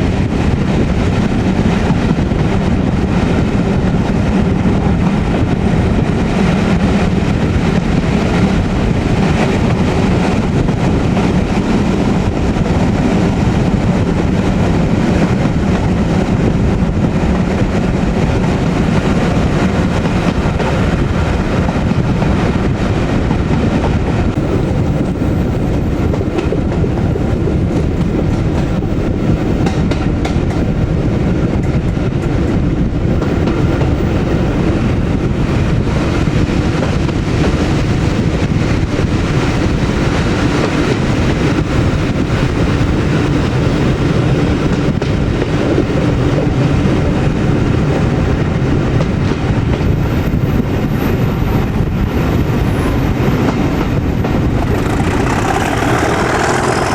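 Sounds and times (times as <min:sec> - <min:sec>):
diesel locomotive engine drone: 0:00.0 - 0:56.9
wheel and rail noise: 0:00.0 - 0:56.9.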